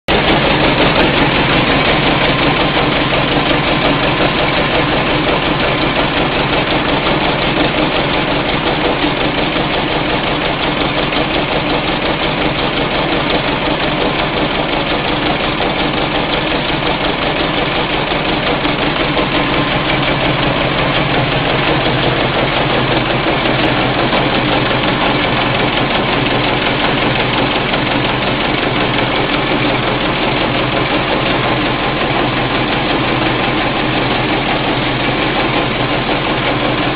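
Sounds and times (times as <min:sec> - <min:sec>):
generator engine running unevenly: 0:00.1 - 0:36.9.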